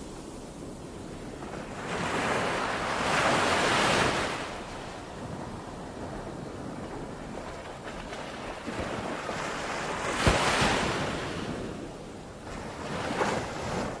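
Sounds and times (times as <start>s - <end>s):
ocean waves crashing: 0.0s - 14.0s
wind on microphone: 0.0s - 14.0s.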